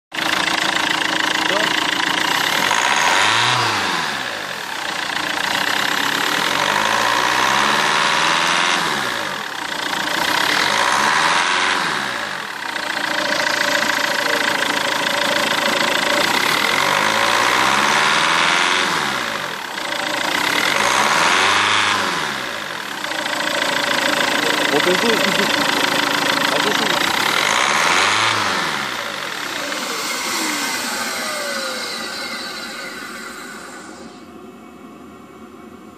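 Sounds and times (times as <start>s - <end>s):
diesel engine running: 0.1s - 35.9s.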